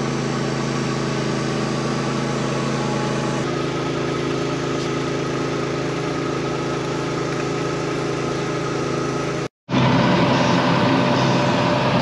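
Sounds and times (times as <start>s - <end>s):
loud engine: 0.0s - 12.0s
tractor engine running: 0.0s - 12.0s.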